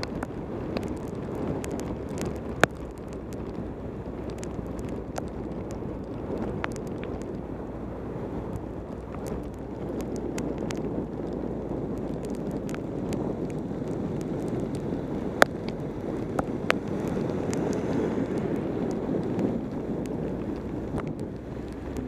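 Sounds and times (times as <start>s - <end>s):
tyres hissing on wet road: 0.0s - 22.0s
wind on microphone: 0.0s - 22.0s.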